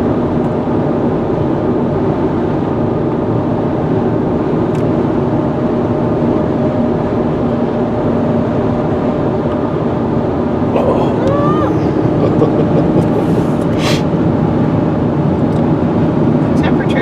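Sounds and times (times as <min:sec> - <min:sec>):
vehicle road and engine rumble: 0:00.0 - 0:17.0.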